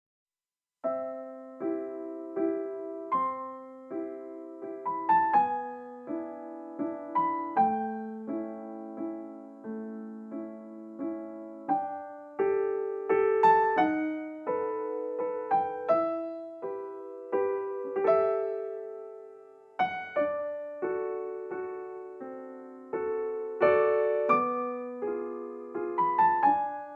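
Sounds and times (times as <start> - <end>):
gentle piano music: 0.8 - 26.9.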